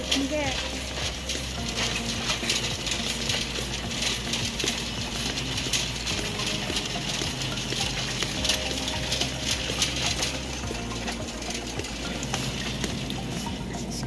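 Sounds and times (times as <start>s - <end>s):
shopping cart rattling: 0.0s - 14.0s
steady low hum: 0.0s - 14.0s.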